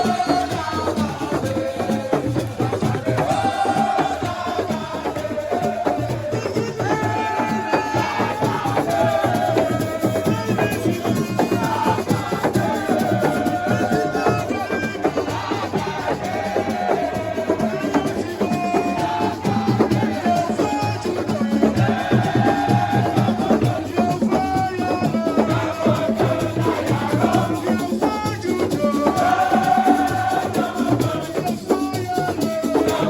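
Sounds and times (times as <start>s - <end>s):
fast hand percussion: 0.0s - 33.0s.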